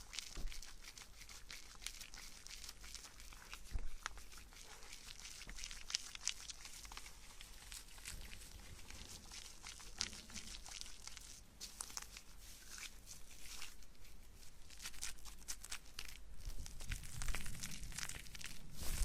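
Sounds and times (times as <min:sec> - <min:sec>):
soft crackles and rustles: 0:00.0 - 0:19.0.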